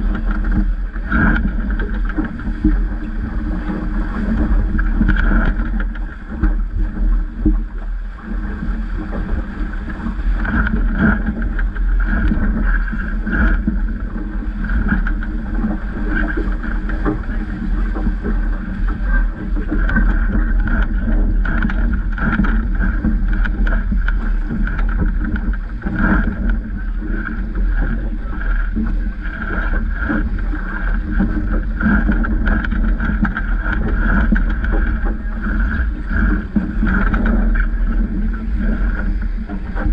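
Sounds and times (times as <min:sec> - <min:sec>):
water rushing past boat hull: 0:00.0 - 0:39.9
wind buffeting on microphone: 0:00.0 - 0:39.9.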